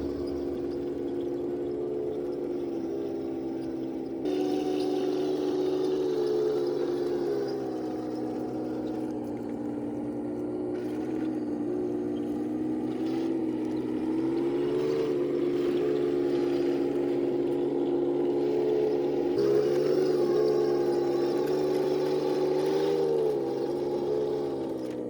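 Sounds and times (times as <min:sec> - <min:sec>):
model tank motor droning: 0:00.0 - 0:25.0.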